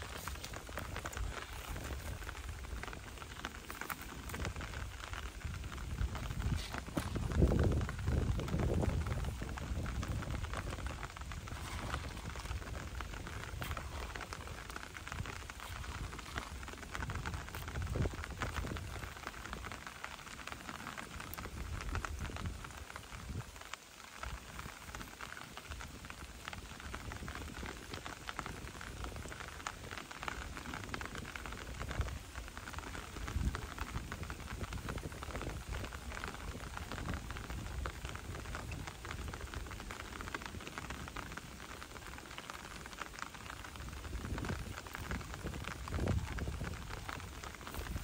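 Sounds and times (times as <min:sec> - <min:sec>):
light rain pattering on water: 0:00.0 - 0:48.0.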